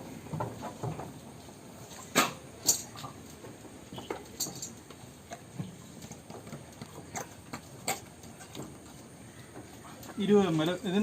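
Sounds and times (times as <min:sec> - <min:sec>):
goat shuffling and mouthing: 0:00.0 - 0:11.0.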